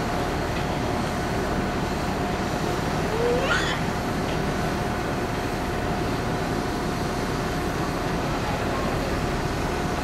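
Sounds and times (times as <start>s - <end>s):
constant thin whine: 0.0s - 10.0s
ferry machinery rumble: 0.0s - 10.0s.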